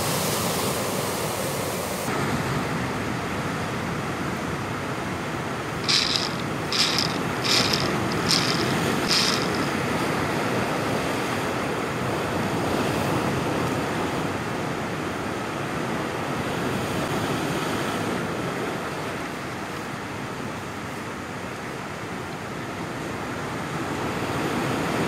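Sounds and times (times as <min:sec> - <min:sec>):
surf on a rocky shore: 0:00.0 - 0:05.2, 0:05.8 - 0:25.0.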